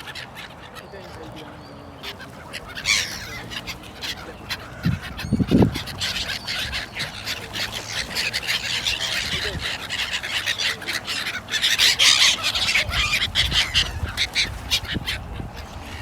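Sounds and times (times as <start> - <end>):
fowl calling: 2.0 - 16.0.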